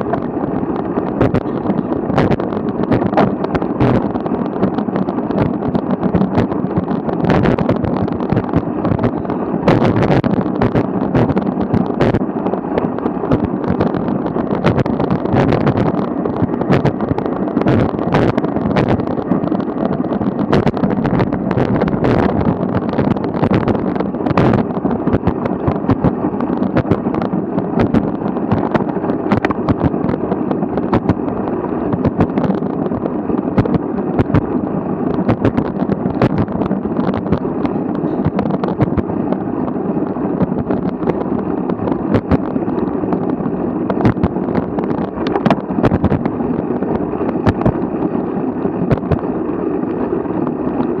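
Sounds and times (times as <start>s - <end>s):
bicycle wheels knocking and rattling: 0.0s - 51.0s
wind and tyre noise: 0.0s - 51.0s.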